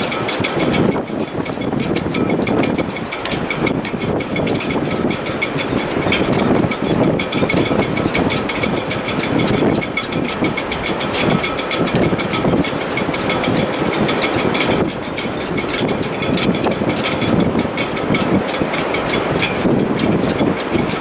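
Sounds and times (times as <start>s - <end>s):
rigging fluttering rattle: 0.0s - 21.0s
wind howling through rigging: 0.0s - 21.0s.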